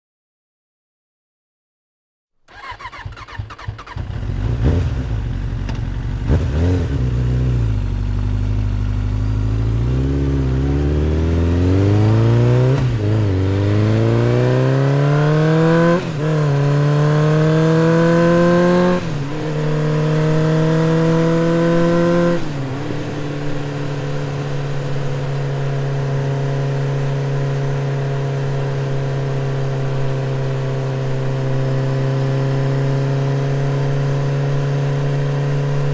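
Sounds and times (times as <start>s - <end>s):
motorcycle engine shifting gears: 2.5s - 35.9s.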